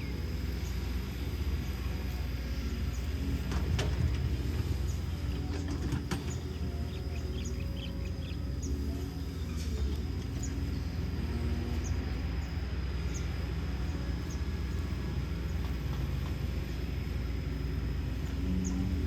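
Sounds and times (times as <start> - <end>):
excavator diesel engine rumble: 0.0 - 19.0.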